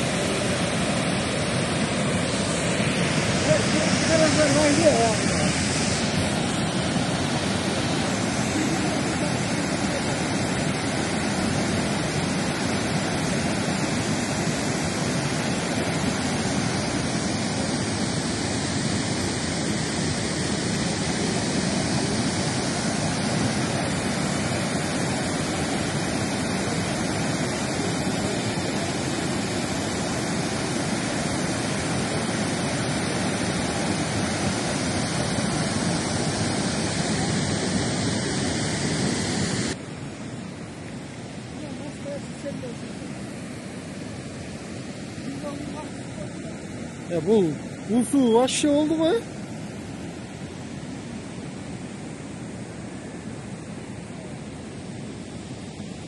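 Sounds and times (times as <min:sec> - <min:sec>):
mudflow rushing down slope: 0:00.0 - 0:56.0.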